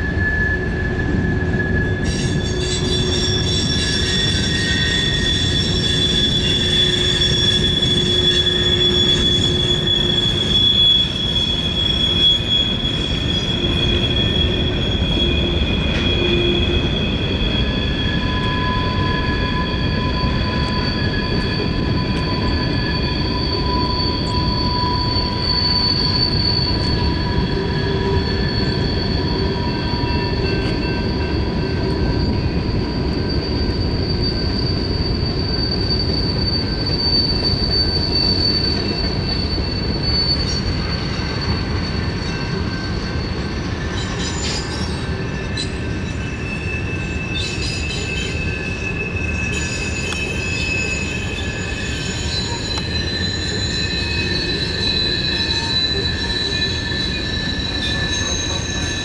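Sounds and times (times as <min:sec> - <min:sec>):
high-pitched wheel squeal: 0:00.0 - 0:59.0
train wheels rumbling on rails: 0:00.0 - 0:59.0.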